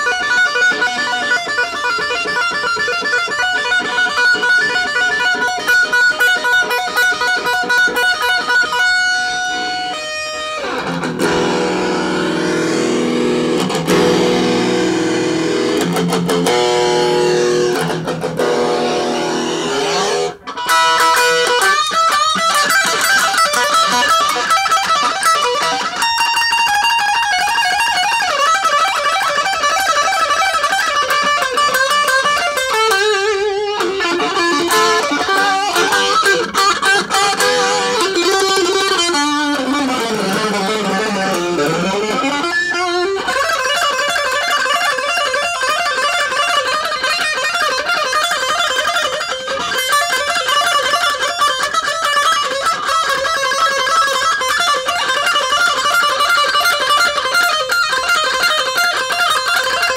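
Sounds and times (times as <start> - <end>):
fast guitar instrumental: 0.0 - 59.9.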